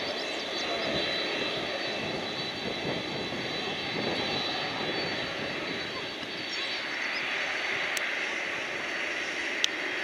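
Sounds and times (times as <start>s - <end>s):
jet engine rush: 0.0s - 10.0s.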